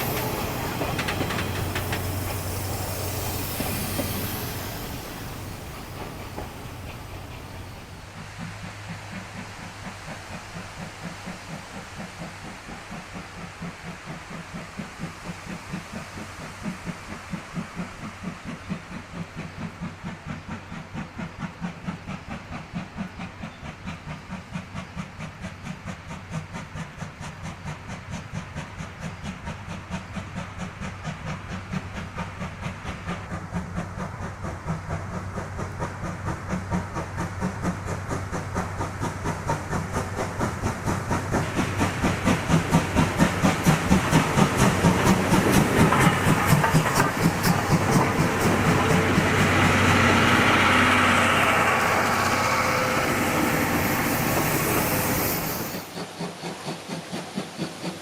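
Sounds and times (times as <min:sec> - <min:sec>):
steam hissing: 0:00.0 - 0:58.0
steam locomotive chuffing: 0:00.0 - 0:58.0.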